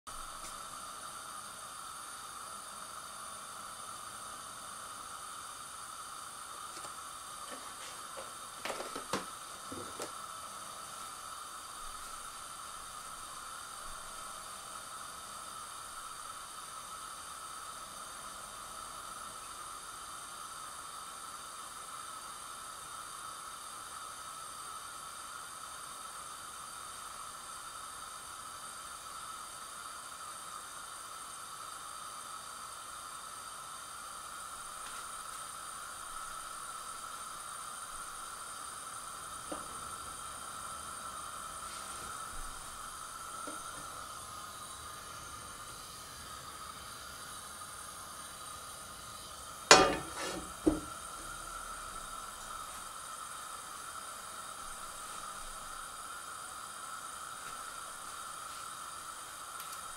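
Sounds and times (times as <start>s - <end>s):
gas burner hissing: 0.1s - 59.9s.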